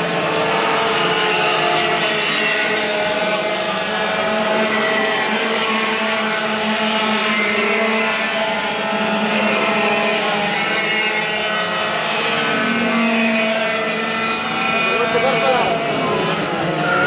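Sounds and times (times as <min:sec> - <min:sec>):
racing kart engines at high revs: 0:00.0 - 0:17.0.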